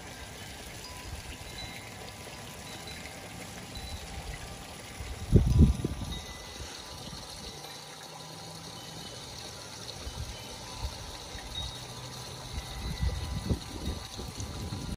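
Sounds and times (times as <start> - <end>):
fountain trickling and splashing: 0.0 - 14.9.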